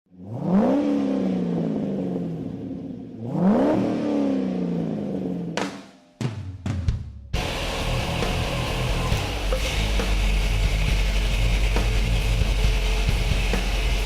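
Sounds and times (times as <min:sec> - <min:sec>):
car engine revving: 0:00.1 - 0:05.7, 0:07.4 - 0:14.0.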